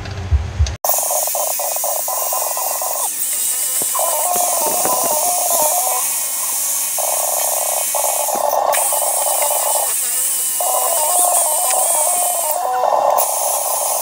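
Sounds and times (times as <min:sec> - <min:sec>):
grinder grinding metal: 0:00.8 - 0:14.0.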